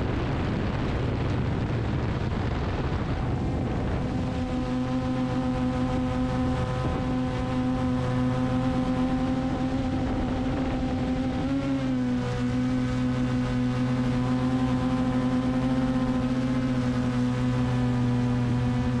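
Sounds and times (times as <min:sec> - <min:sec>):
drone motor hum and propeller whine: 0:00.0 - 0:19.0.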